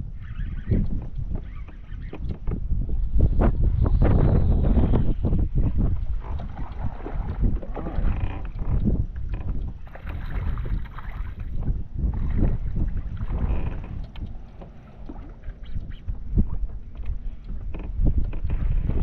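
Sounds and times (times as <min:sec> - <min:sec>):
wind buffeting microphone: 0:00.0 - 0:19.0
water lapping against plastic hull: 0:00.4 - 0:19.0.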